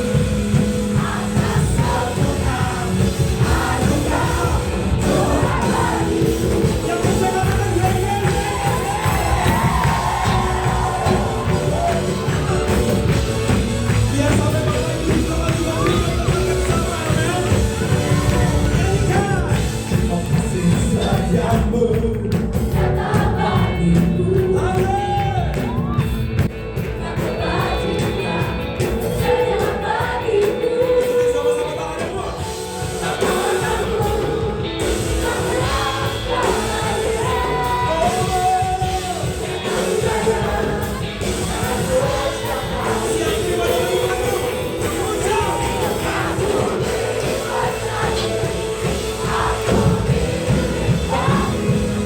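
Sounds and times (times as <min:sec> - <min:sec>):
voices singing a melody: 0:00.0 - 0:25.3, 0:26.8 - 0:52.0
band playing worship music: 0:00.0 - 0:52.0.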